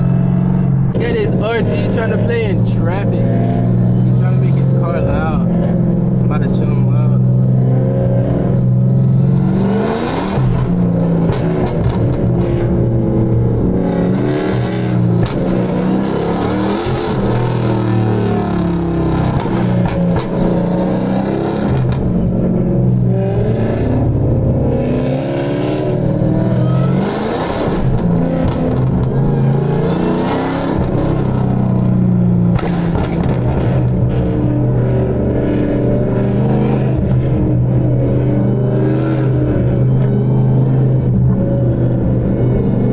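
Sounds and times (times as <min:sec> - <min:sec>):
car engine revving and accelerating: 0:00.0 - 0:42.9.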